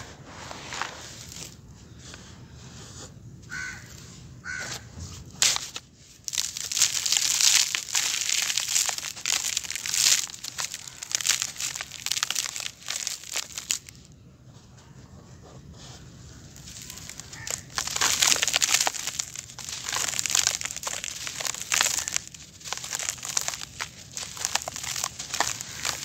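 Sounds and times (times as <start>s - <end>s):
sand crackling through fingers: 0.2s - 3.8s, 5.3s - 14.1s, 16.3s - 26.0s.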